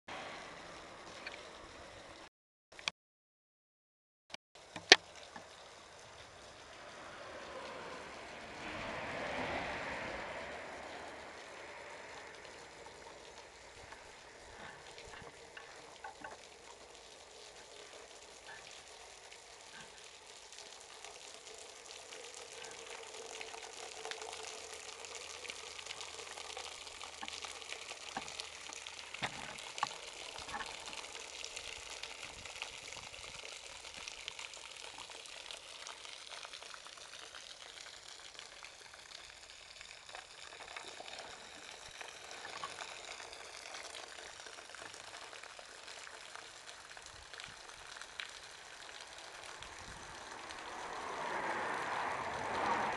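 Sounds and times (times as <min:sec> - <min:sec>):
water dripping and spattering: 0:04.6 - 0:52.9.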